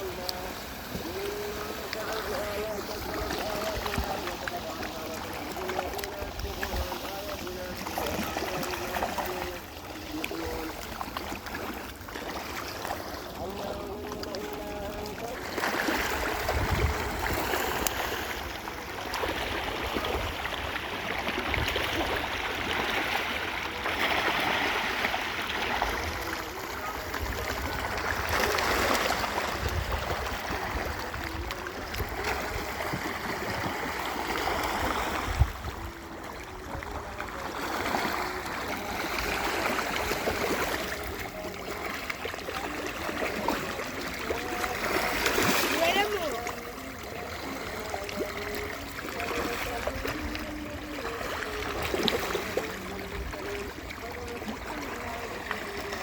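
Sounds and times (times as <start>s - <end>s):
pond water splashing: 0.0s - 56.0s.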